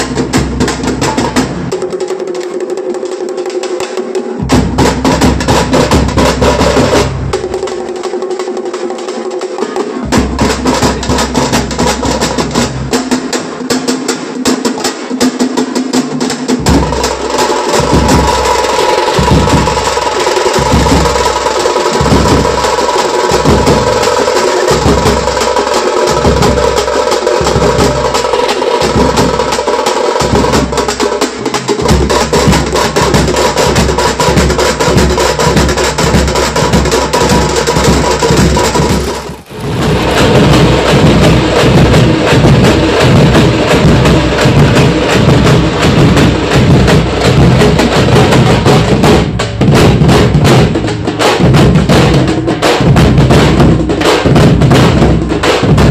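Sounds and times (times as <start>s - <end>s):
heavy low drum beat: 0.0s - 2.0s, 4.4s - 8.2s, 9.7s - 55.9s
fast procession drumming: 0.0s - 55.9s.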